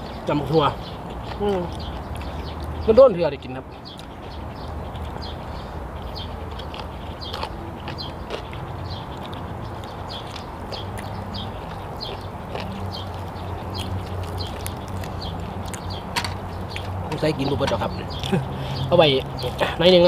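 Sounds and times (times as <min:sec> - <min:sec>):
chewing and lip-smacking: 0:00.2 - 0:02.9, 0:03.7 - 0:18.6, 0:19.2 - 0:19.8.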